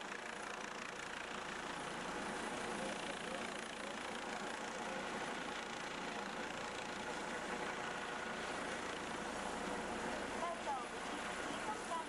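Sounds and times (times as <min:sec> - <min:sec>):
helicopter hovering: 0:00.0 - 0:12.0.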